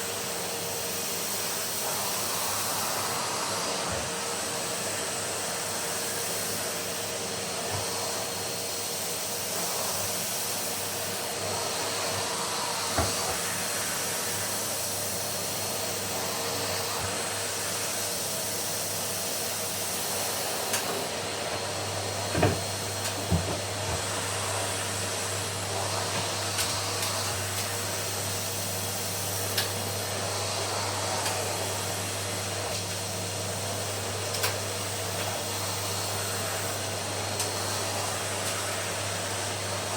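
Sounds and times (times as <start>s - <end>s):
vacuum cleaner humming: 0.0s - 39.9s.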